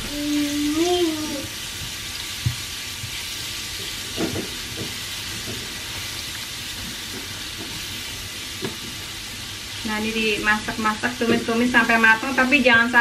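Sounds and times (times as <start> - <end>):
spatula stirring in a pan: 0.0 - 13.0
spice paste sizzling in oil: 0.0 - 13.0.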